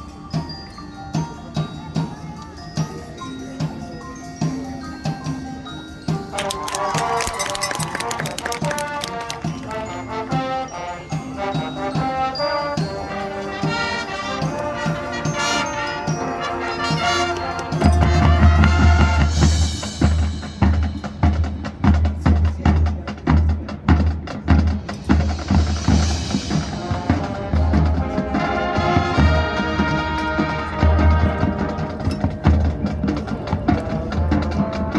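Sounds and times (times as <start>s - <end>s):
marching band brass chords: 6.2s - 34.9s.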